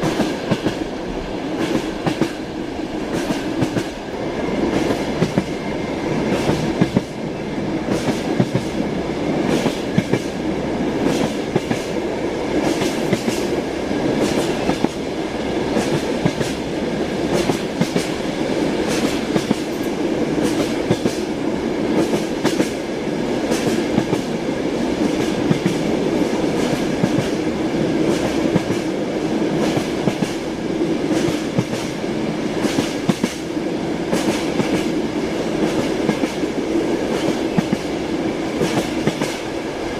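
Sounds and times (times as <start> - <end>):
rumble of rolling train car: 0.0 - 39.9.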